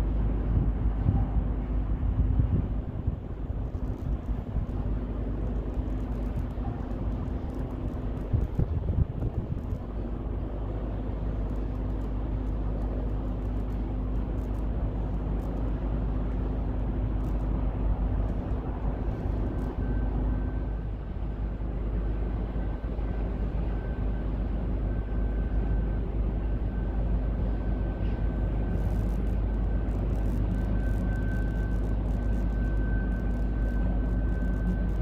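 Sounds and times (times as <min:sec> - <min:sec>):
faint high whine: 0:00.0 - 0:35.0
low hum: 0:00.0 - 0:35.0
ship machinery rumble: 0:00.0 - 0:35.0.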